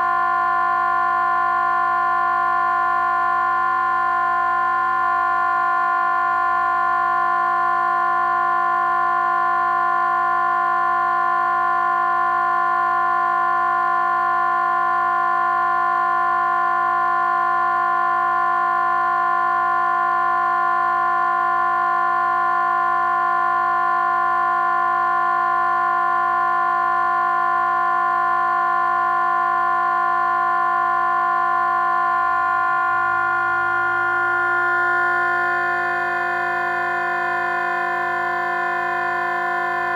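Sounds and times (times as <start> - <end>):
electronic drone of held tones: 0.0 - 39.9.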